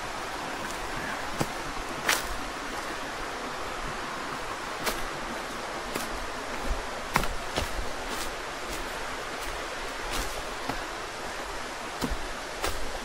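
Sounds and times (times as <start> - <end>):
rushing stream: 0.0 - 13.0.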